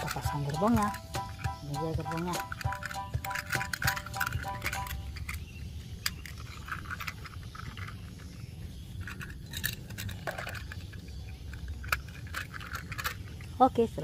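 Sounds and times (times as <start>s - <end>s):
plastic toy clicks and scrapes: 0.0s - 13.7s.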